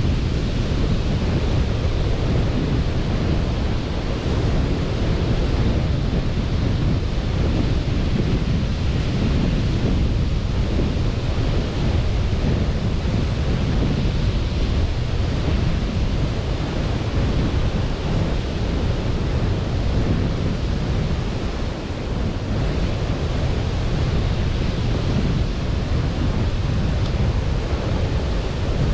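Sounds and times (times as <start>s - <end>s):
heavy low rumble: 0.0s - 28.9s
sea surf on beach: 0.0s - 28.9s
wind buffeting microphone: 0.0s - 28.9s.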